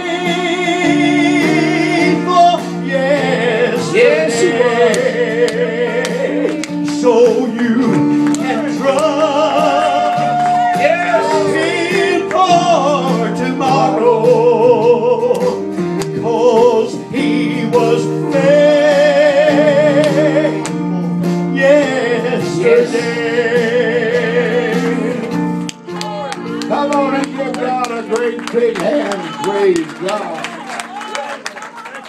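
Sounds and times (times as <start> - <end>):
men singing gospel song: 0.0 - 25.7, 26.6 - 29.8
keyboard chords: 0.0 - 32.0.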